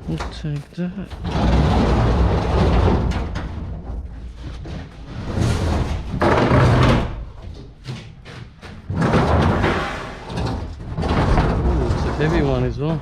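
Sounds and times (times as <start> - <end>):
heavy appliance thumping and scraping: 0.0 - 13.0.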